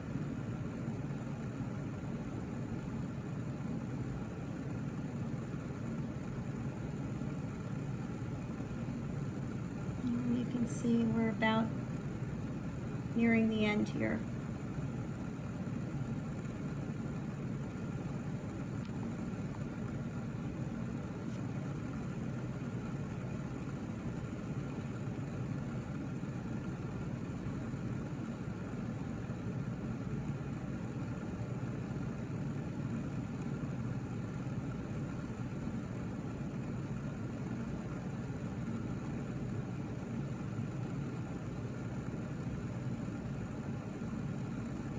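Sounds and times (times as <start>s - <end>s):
low mechanical hum: 0.0s - 44.9s
faint steady tones: 2.3s - 44.9s.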